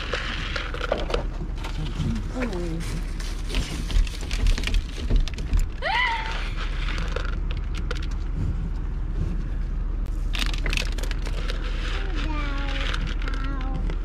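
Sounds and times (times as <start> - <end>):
clicks and rustles: 0.0 - 14.0
steady low rumble: 0.0 - 14.0.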